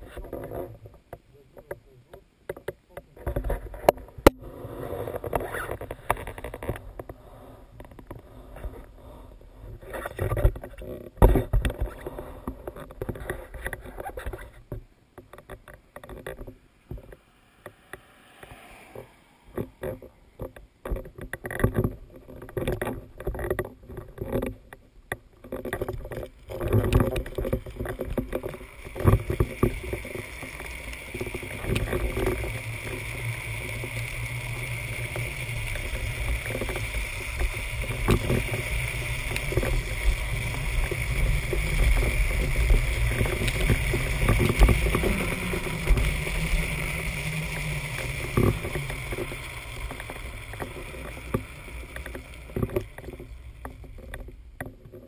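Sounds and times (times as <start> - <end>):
wheels rolling on asphalt: 0.0 - 55.0.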